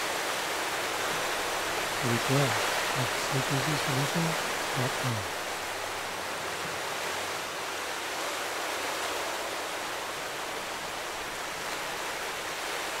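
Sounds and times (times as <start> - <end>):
ocean waves washing: 0.0 - 13.0.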